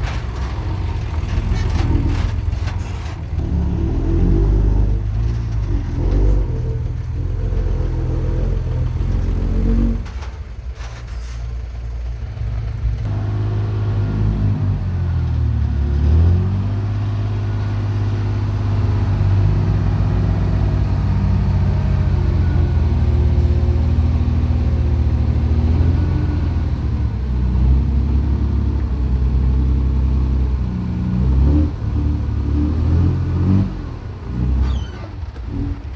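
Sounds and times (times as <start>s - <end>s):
construction machine engines revving: 0.0s - 35.9s.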